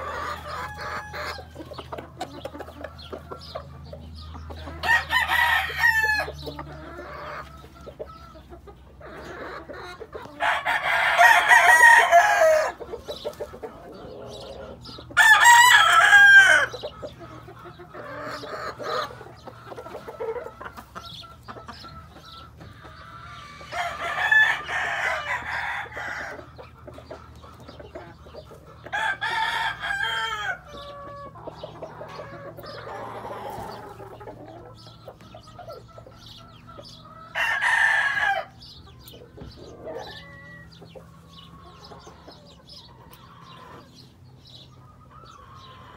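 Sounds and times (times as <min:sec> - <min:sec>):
roosters crowing: 0:00.0 - 0:45.9.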